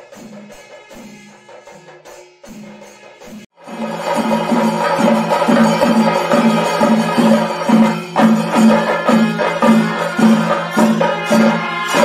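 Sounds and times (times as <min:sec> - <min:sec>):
steady percussive beat: 0:00.0 - 0:12.0.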